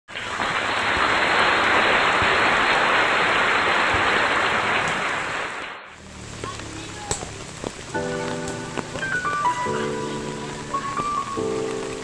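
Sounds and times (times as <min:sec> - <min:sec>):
heavy rain on water: 0:00.1 - 0:12.0.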